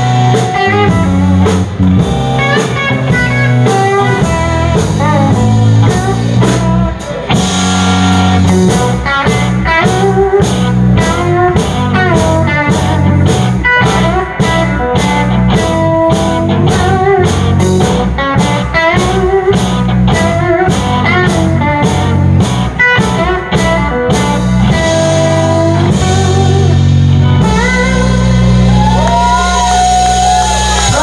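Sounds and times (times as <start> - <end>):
bending lead guitar notes: 0.0 - 31.0
blues rock band playing: 0.0 - 31.0.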